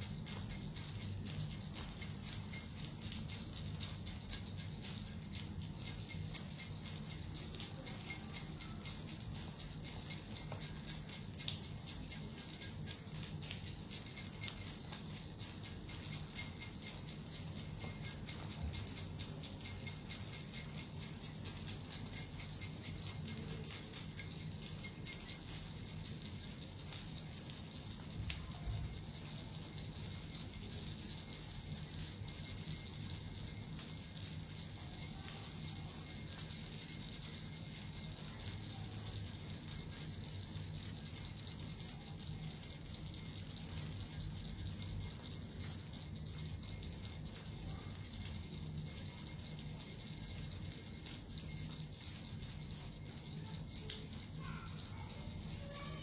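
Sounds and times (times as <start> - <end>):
small bells jingling: 0.0 - 56.0.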